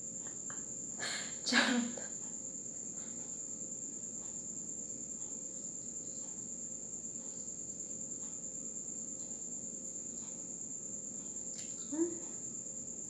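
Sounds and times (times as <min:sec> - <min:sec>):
high-pitched insect trill: 0:00.0 - 0:13.0.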